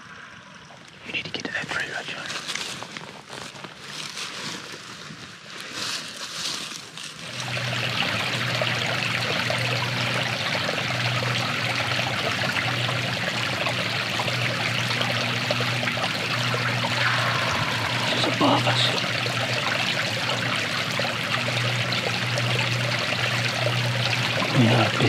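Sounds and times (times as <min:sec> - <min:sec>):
creek trickling: 0:00.0 - 0:25.0.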